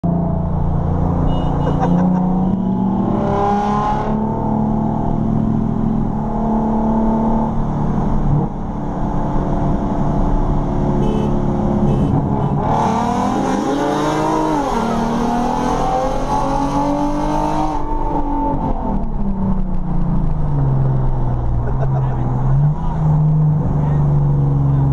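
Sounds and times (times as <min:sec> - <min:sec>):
car engines at full throttle: 0:00.0 - 0:24.9.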